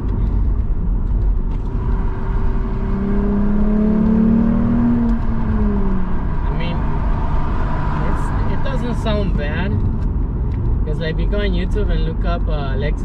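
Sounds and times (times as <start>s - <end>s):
car engine accelerating: 0.0s - 12.3s.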